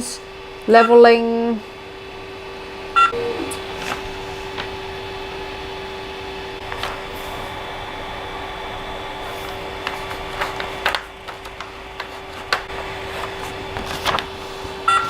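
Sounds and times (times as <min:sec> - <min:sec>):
printer fan hum: 0:00.0 - 0:15.0.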